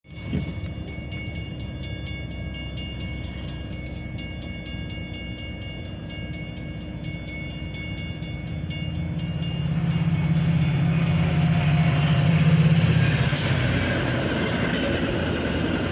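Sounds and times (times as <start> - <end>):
crossing bell ringing: 0.0 - 15.9
train rumble: 0.0 - 15.9.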